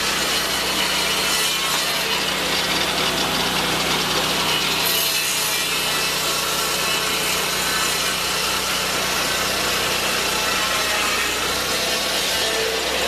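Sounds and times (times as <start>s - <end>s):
sawmill blade sawing a log: 0.0s - 13.0s.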